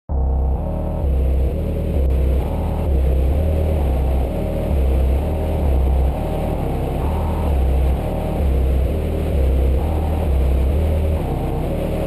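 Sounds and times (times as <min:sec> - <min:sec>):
music with repeating bass line: 0:00.1 - 0:12.0.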